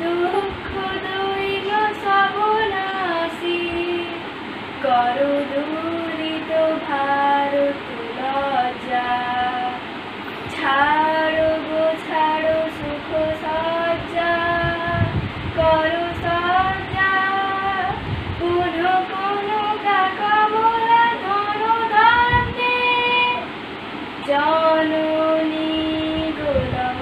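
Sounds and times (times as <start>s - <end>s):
girl singing solo: 0.0s - 23.5s, 24.2s - 27.0s.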